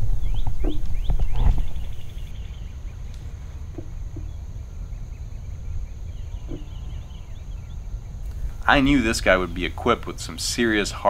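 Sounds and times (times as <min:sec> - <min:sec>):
faint songbird chirps: 0:00.0 - 0:11.0
low rumble: 0:00.0 - 0:11.0.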